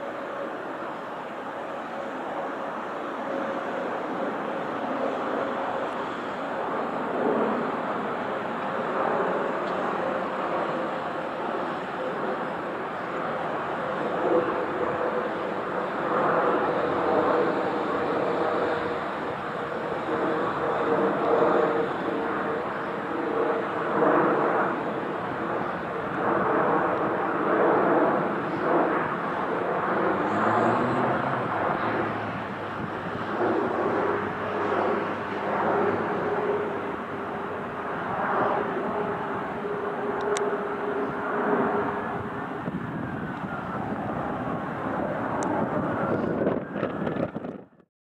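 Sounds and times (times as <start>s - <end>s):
jet engines roaring overhead: 0.0s - 47.8s.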